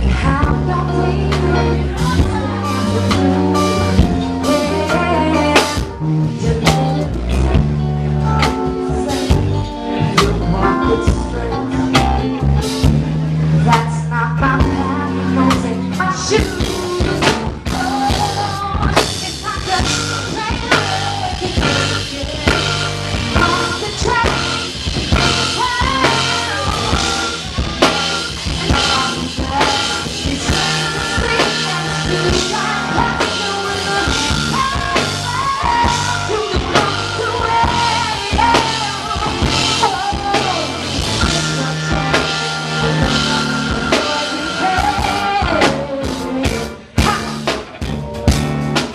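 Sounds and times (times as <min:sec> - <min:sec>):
drum kit beat: 0:00.0 - 0:48.9
live rock band playing: 0:00.0 - 0:48.9.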